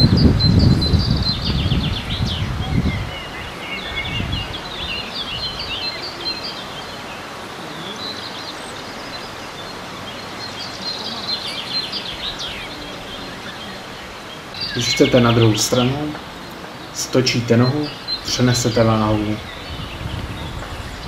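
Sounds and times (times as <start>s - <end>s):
bird trill: 0.0s - 21.0s
outdoor background hiss: 0.0s - 21.0s
songbirds singing and chirping: 0.0s - 21.0s.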